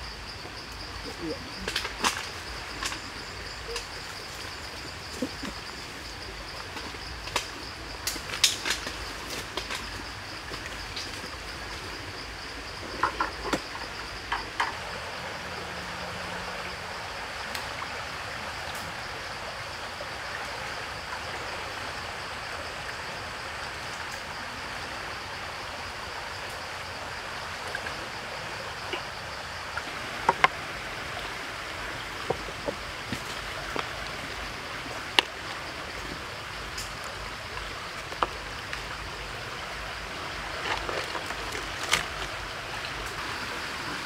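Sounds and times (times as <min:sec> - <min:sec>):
forest background hiss: 0:00.0 - 0:44.0.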